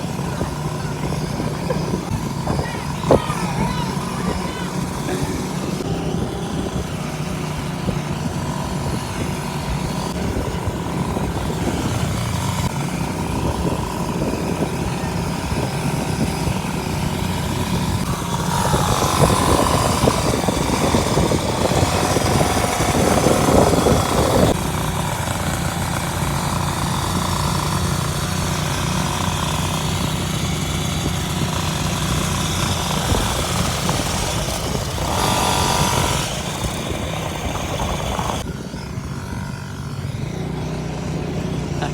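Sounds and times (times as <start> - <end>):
small two-stroke engine running: 0.0 - 41.9.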